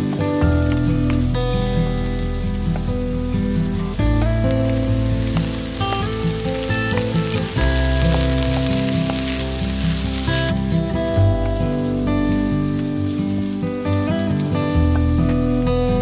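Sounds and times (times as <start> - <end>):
background music: 0.0 - 16.0
vegetables sizzling in a wok: 0.4 - 16.0.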